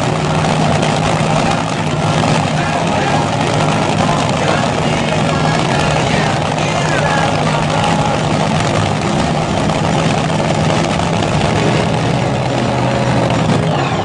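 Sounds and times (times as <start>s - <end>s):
large vehicle engine idling: 0.0s - 14.0s.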